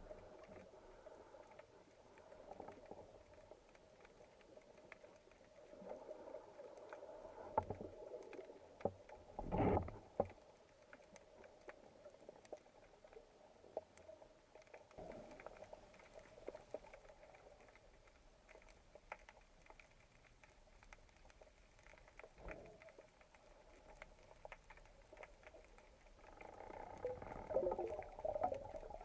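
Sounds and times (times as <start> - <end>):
small clicks and crackles: 0.0 - 29.0
underwater low hum: 0.0 - 29.0.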